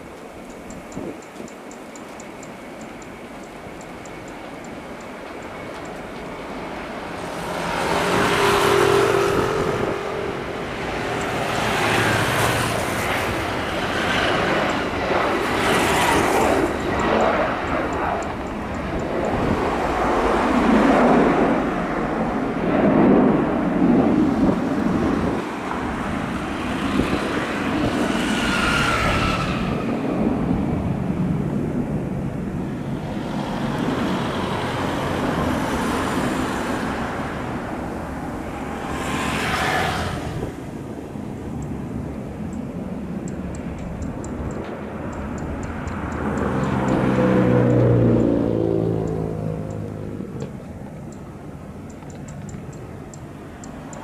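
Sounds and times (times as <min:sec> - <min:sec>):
jet engines at takeoff: 0:00.0 - 0:54.0.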